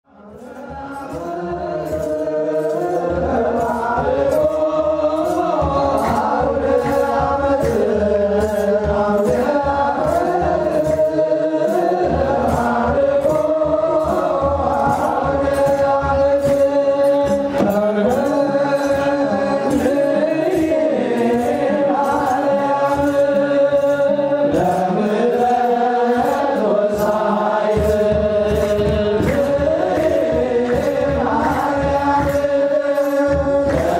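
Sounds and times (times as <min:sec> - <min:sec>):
male choir chanting in unison: 0:00.1 - 0:33.9
steady drum beat: 0:00.3 - 0:33.9.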